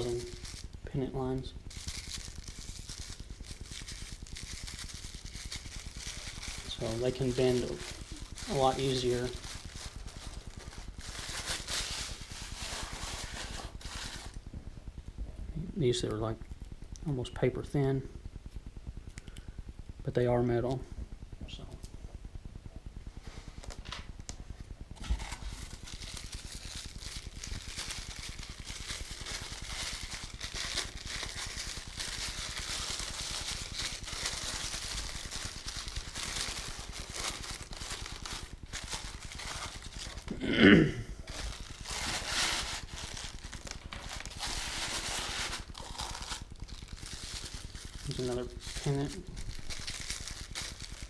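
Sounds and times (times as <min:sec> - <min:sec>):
packaging rustling and crinkling: 0:00.0 - 0:14.5, 0:23.4 - 0:40.4, 0:41.2 - 0:51.0.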